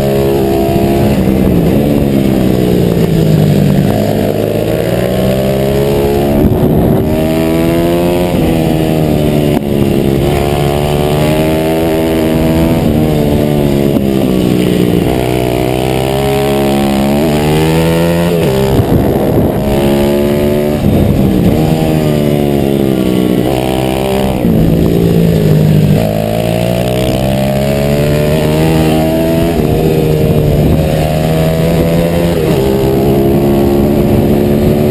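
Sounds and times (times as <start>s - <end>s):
pit bike engine revving: 0.0s - 34.9s
wind rushing over microphone: 0.0s - 34.9s.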